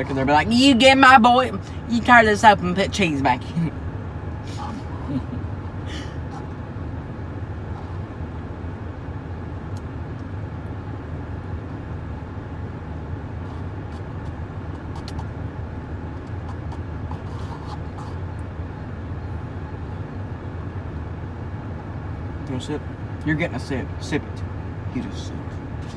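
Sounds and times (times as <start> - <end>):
truck engine rumbling: 0.0 - 25.9.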